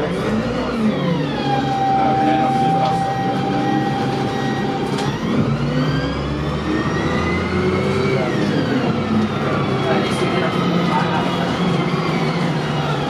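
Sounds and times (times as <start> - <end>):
bus engine whine pulling away: 0.0 - 13.0.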